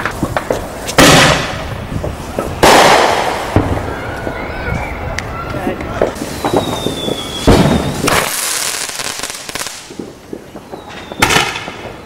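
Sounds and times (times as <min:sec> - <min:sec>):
fireworks bangs: 0:00.0 - 0:12.0
fireworks crackling hiss: 0:00.0 - 0:12.0.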